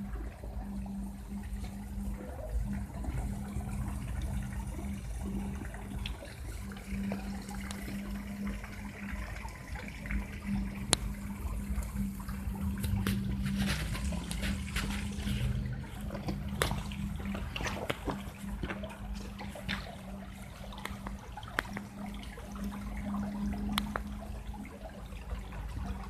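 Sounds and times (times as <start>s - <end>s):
steady low hum: 0.0s - 26.0s
stream water trickling: 0.0s - 26.0s
water splashes and drips: 0.0s - 26.0s.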